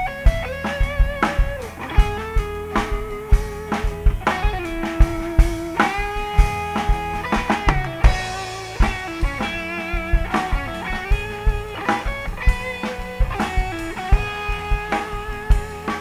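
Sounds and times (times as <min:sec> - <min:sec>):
drum kit beat: 0:00.0 - 0:16.0
electric guitar lead: 0:00.0 - 0:16.0.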